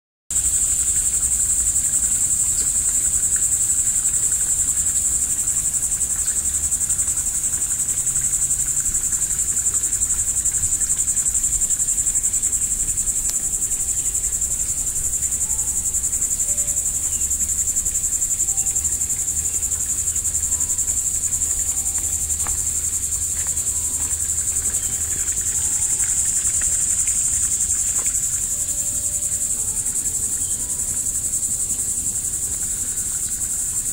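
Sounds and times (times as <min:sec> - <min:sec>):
insects droning in chorus: 0:00.3 - 0:33.9.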